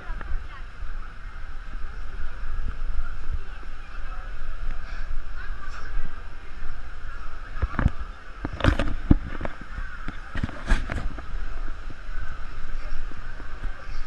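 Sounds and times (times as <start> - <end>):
muffled rumble: 0.0 - 14.0.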